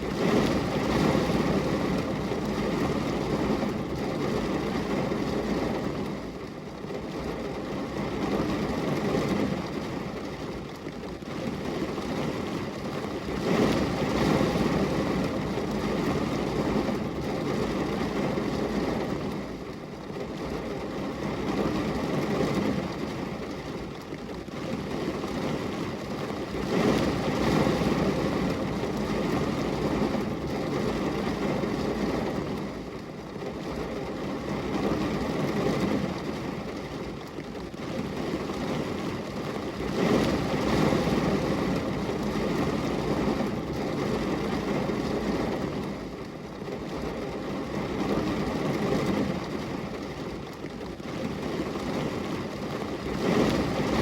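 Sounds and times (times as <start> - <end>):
heavy rain on a window: 0.0 - 54.0.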